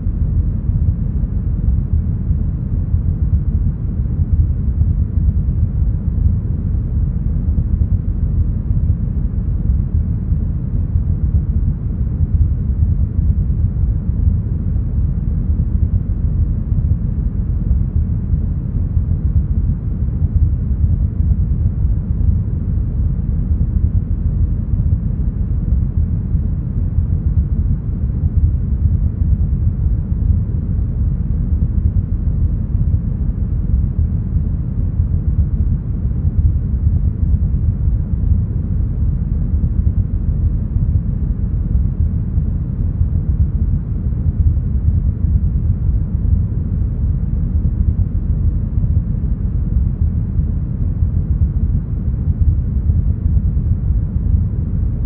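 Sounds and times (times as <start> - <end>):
deep brown noise: 0.0 - 55.0.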